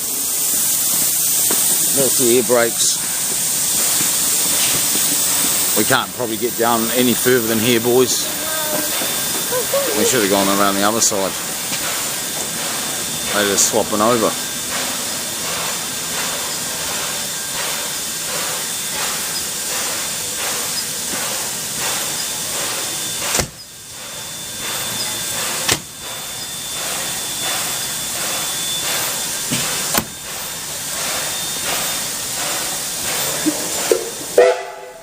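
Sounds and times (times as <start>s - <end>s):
steam locomotive hissing: 0.0s - 35.0s.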